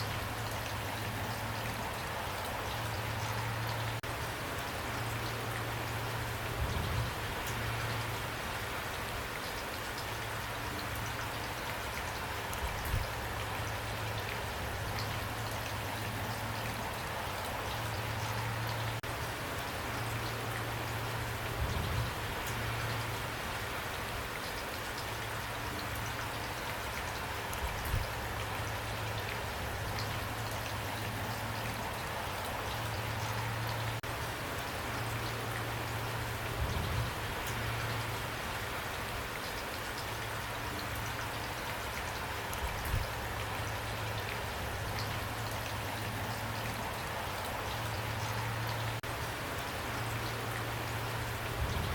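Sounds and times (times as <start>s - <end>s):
raindrops ticking: 0.0s - 51.9s
steady rain falling: 0.0s - 51.9s.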